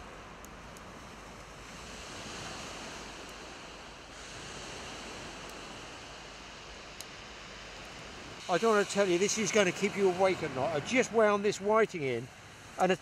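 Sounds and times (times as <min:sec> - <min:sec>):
surf washing on shingle: 0:00.8 - 0:13.0.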